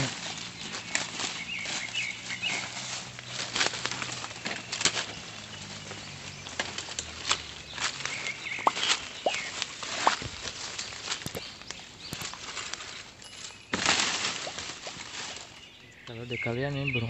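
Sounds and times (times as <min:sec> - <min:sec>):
footsteps crunching through dry leaves: 0:00.0 - 0:15.9.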